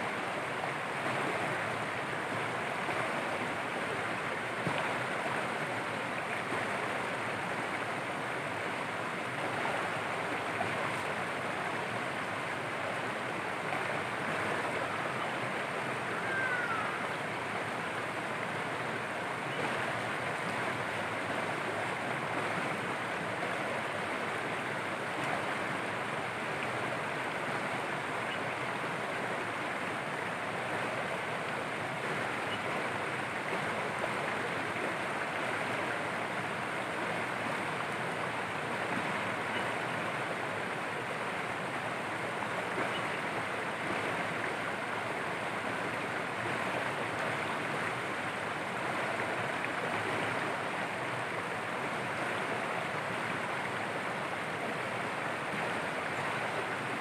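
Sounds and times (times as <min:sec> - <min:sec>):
stream rushing over stones: 0:00.0 - 0:57.0.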